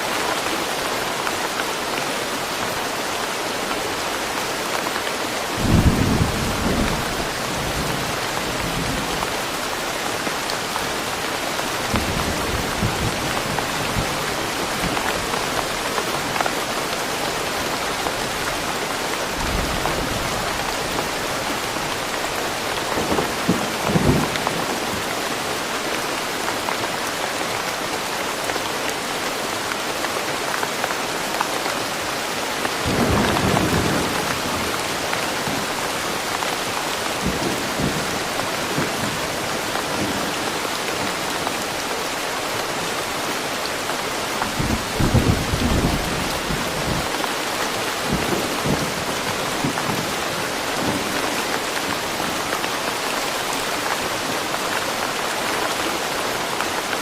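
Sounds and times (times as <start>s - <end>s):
steady rain falling in woodland: 0.0s - 57.0s.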